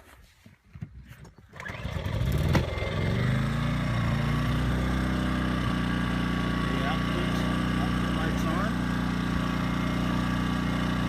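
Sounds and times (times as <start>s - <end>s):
generator engine starting and running: 1.2s - 11.0s.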